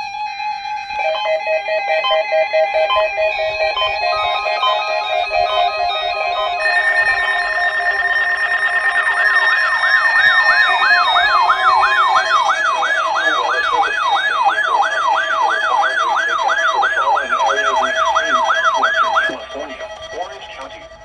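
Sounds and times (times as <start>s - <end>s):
electronic siren alarm sweeping: 0.0s - 21.0s
steady electronic tones: 0.0s - 21.0s.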